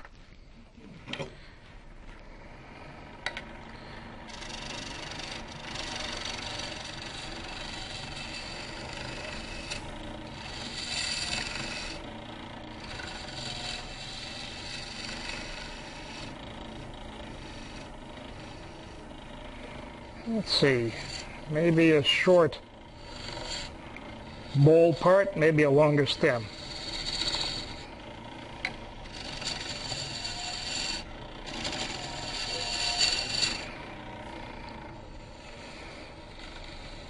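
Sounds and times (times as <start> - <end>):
lathe tool cutting wood hiss: 2.4 - 37.0.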